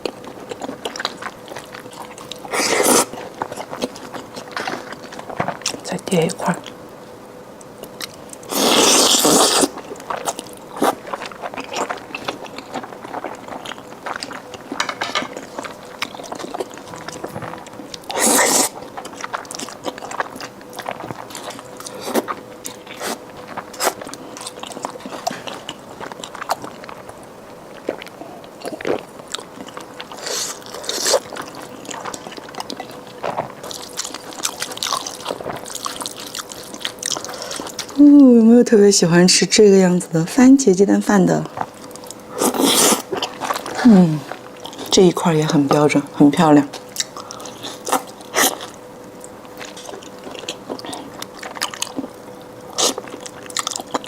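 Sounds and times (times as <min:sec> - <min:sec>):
person chewing food: 0:00.0 - 0:05.8, 0:07.6 - 0:38.0, 0:41.6 - 0:44.9, 0:46.8 - 0:54.0.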